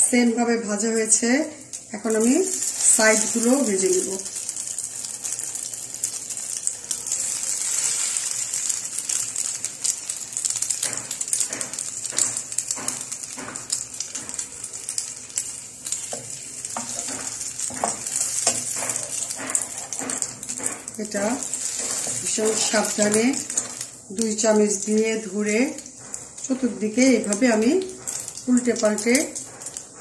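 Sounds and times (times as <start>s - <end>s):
bread sizzling in oil: 0.0s - 30.0s
utensils tapping and scraping pan: 1.0s - 30.0s.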